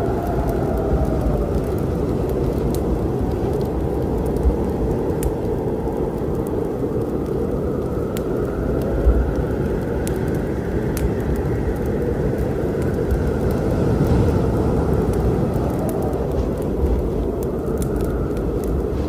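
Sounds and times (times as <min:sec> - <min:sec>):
low storm rumble: 0:00.0 - 0:19.0
wood fire crackling: 0:00.0 - 0:19.0.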